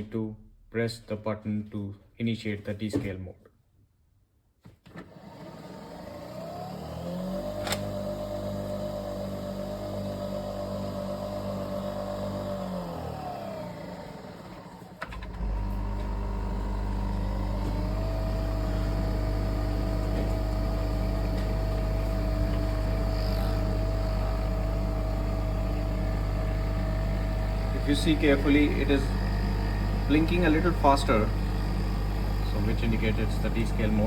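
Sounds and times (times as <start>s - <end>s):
coffee machine whirring: 5.0s - 34.0s
pump humming with low buzz: 6.0s - 34.0s.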